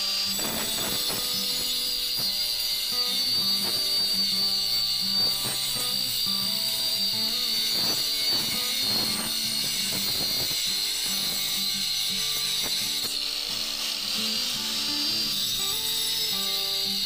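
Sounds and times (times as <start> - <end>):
angle grinder cutting wood: 0.0 - 17.0.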